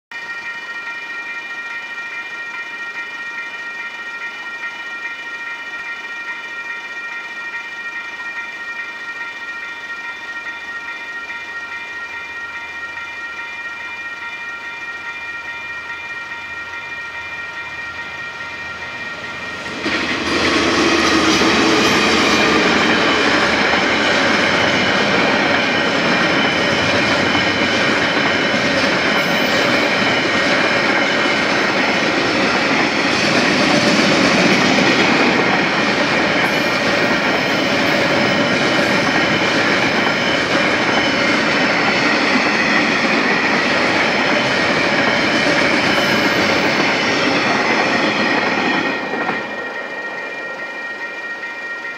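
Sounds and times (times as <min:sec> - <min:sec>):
freight train wagons on rails: 0:00.1 - 0:51.9
level crossing warning bells: 0:00.1 - 0:51.9.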